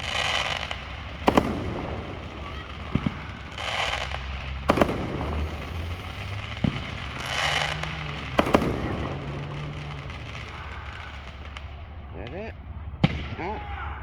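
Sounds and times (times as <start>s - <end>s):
hissing crackle of fireworks: 0.0s - 13.5s
fireworks exploding: 0.0s - 13.7s.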